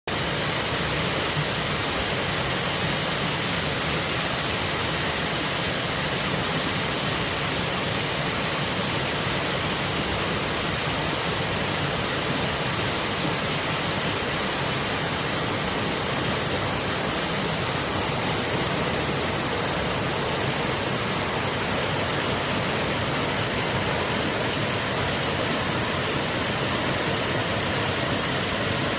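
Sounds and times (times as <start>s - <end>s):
river water rushing: 0.1s - 28.9s.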